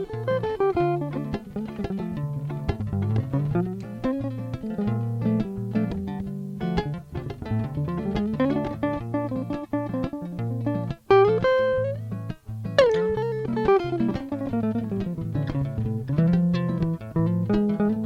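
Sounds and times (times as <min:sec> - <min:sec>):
fingerstyle electric guitar: 0:00.0 - 0:18.0.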